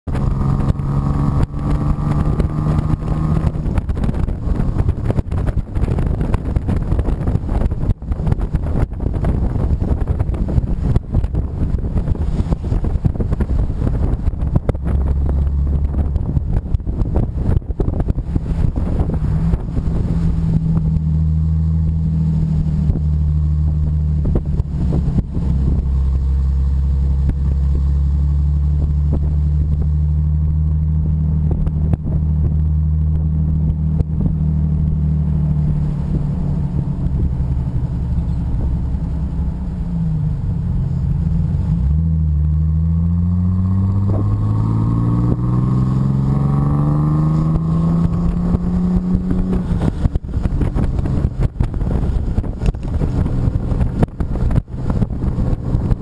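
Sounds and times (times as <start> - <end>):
car engine running and accelerating: 0.0 - 56.0.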